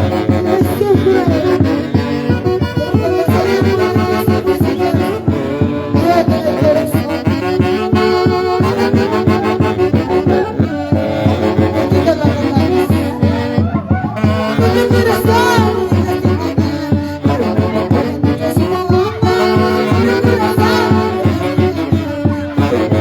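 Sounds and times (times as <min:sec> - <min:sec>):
driving beat: 0:00.0 - 0:23.0
live band dance music: 0:00.0 - 0:23.0
wind instruments melody: 0:00.0 - 0:23.0.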